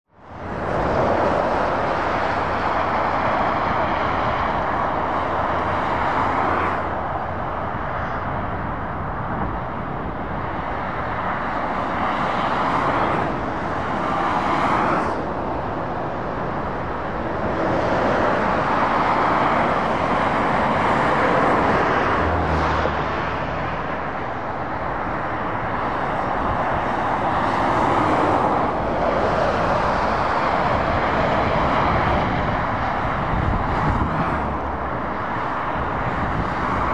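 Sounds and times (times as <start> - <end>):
road traffic passing: 0.1 - 36.9.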